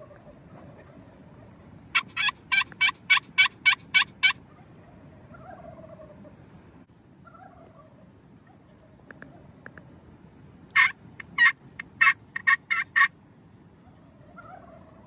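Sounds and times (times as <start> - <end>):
turkey yelps: 0.0 - 6.3, 7.2 - 9.5, 10.8 - 13.1, 13.8 - 15.0.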